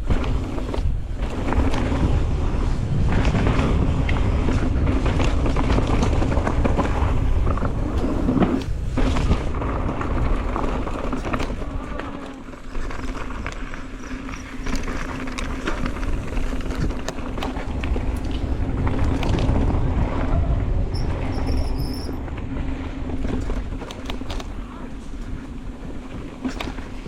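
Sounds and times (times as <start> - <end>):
bike rattling and knocking: 0.0 - 27.0
tyre noise over dirt: 0.0 - 27.0
wind buffeting on microphone: 0.0 - 27.0.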